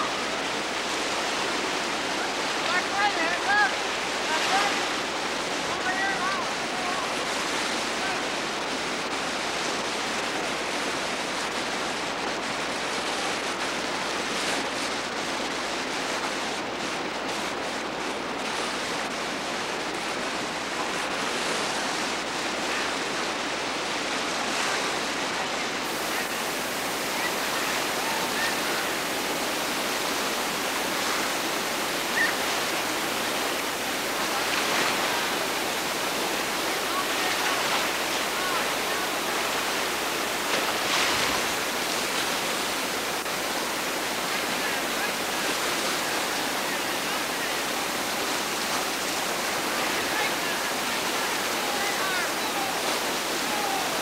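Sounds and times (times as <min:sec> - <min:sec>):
whitewater rapids rushing: 0:00.0 - 0:54.0.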